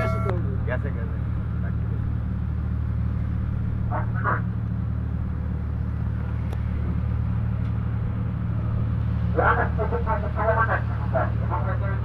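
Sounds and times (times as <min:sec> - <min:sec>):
ship engine humming: 0:00.0 - 0:12.0.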